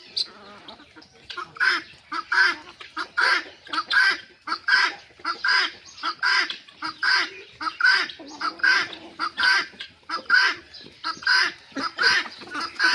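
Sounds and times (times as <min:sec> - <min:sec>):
poultry calling harshly: 0:00.0 - 0:12.9.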